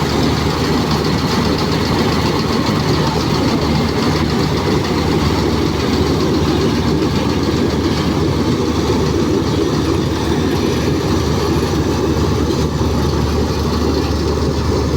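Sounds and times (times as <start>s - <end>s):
combine harvester engine running: 0.0s - 14.9s.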